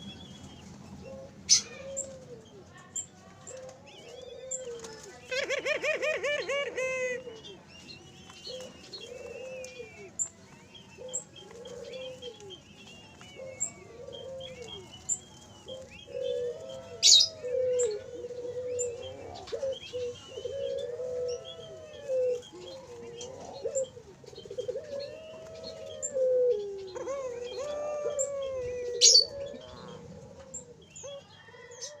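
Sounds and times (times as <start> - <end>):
doves cooing: 0.0 - 32.0
small birds chirping: 0.0 - 32.0.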